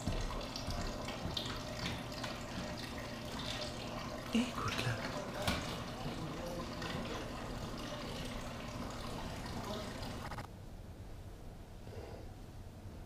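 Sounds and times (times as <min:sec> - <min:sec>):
water trickling from fountain: 0:00.0 - 0:10.4.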